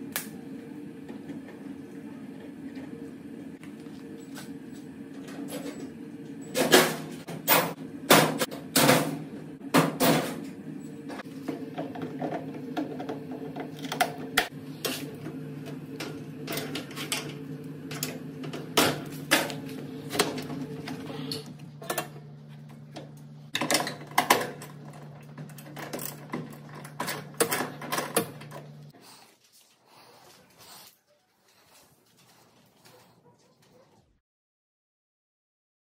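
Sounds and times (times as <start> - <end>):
steady low hum: 0.0 - 30.6.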